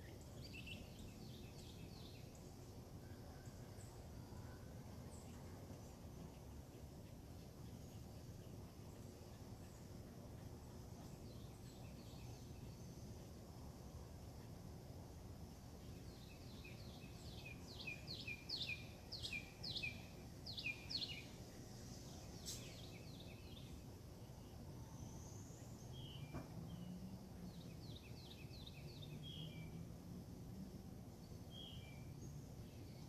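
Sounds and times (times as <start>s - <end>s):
songbird chirping: 0.0s - 33.0s.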